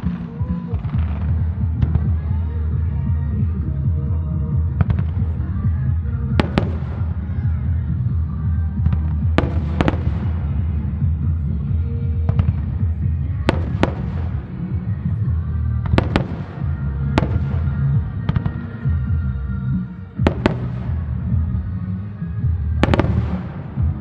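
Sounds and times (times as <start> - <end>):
music with heavy bass: 0.0 - 24.0.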